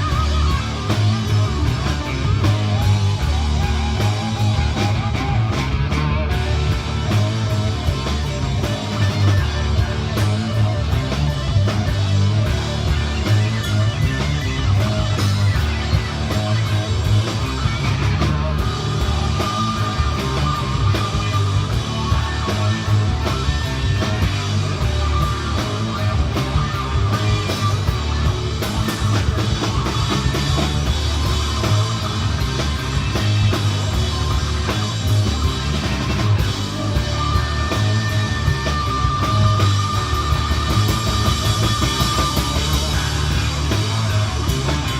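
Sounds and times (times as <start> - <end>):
rock music with guitar and drums: 0.0 - 44.9.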